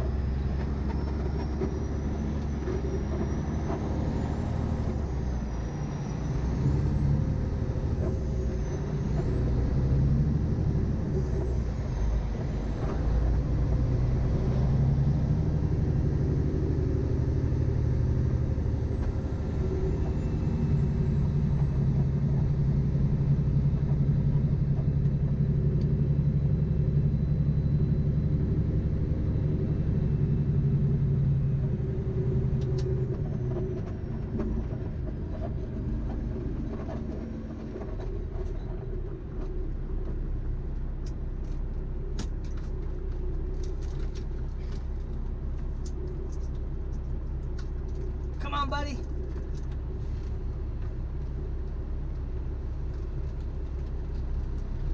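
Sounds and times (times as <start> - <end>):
truck diesel engine: 0.0 - 54.9.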